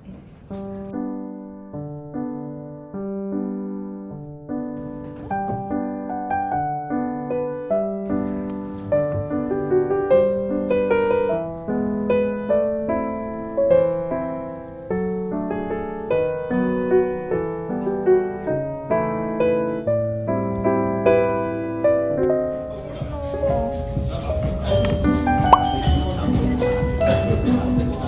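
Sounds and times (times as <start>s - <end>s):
soft piano music: 0.3s - 28.0s.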